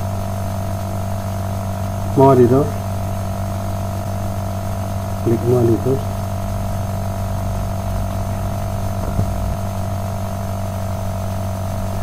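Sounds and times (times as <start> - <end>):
electrical hum and buzz: 0.0 - 12.0.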